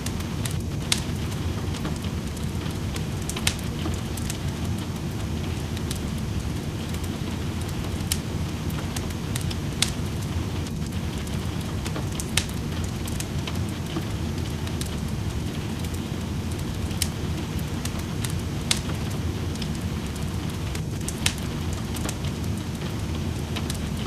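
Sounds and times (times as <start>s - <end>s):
rain: 0.0s - 24.0s
wood fire crackling: 0.0s - 24.0s.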